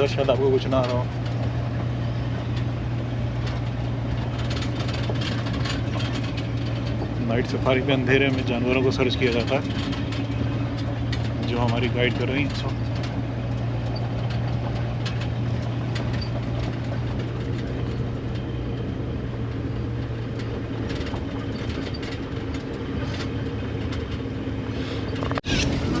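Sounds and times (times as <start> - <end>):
road noise: 0.0 - 26.0
vehicle engine hum: 0.0 - 26.0
vehicle rattles and knocks: 0.0 - 26.0.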